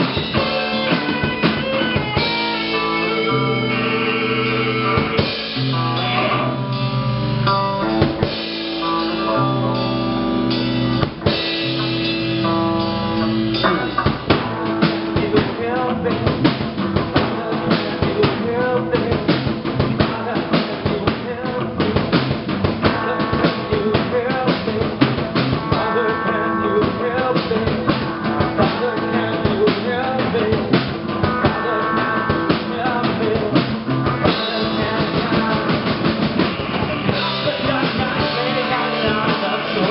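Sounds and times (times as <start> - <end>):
bass guitar: 0.0 - 39.9
drums fast beat: 0.0 - 39.9
ringing guitar chords: 0.0 - 39.9.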